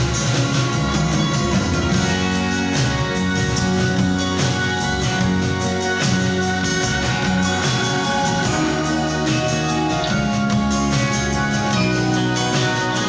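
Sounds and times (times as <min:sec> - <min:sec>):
live band playing instrumental: 0:00.0 - 0:13.0.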